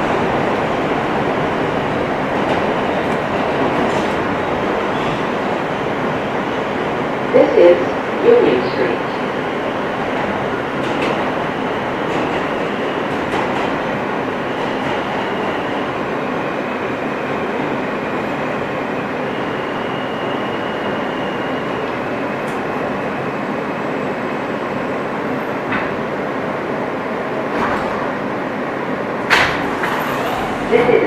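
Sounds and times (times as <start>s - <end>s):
subway train interior noise: 0.0s - 31.0s.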